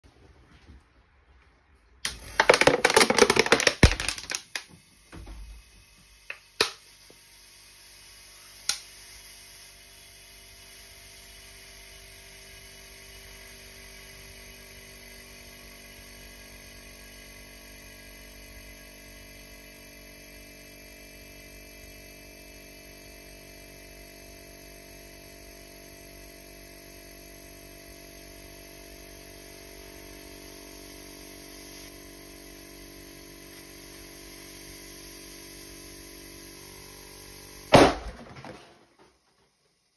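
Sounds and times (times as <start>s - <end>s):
compressor humming: 2.0s - 38.9s.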